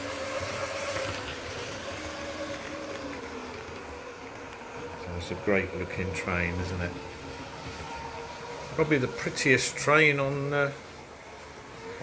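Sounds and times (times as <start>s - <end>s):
model train motor whirring: 0.0s - 12.0s.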